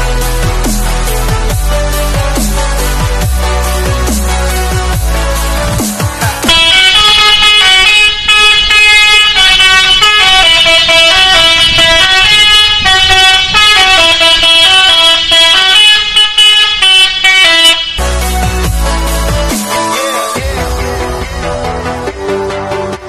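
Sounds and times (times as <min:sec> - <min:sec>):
musical bus horn melody: 0:00.0 - 0:20.4.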